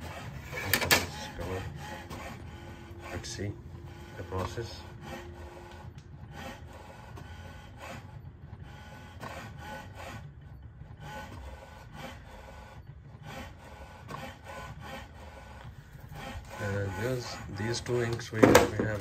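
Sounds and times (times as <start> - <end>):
inkjet printer carriage strokes: 0.0 - 19.0.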